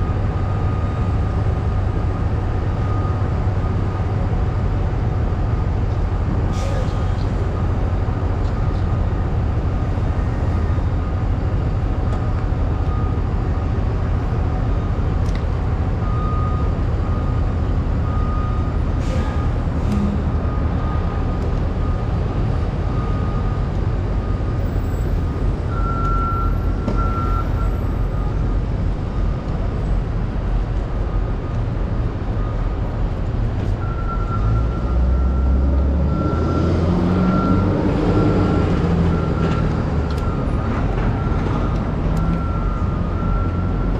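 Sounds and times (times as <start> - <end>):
heavy vehicles rumbling: 0.0 - 43.9.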